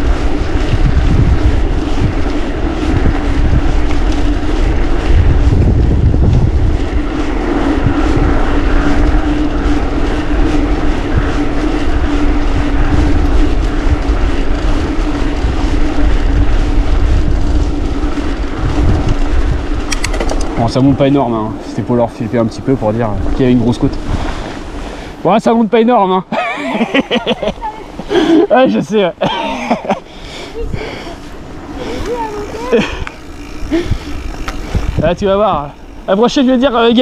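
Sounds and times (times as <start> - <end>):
bike tyres rolling hum: 0.0 - 37.0
wind rushing over microphone: 0.0 - 37.0.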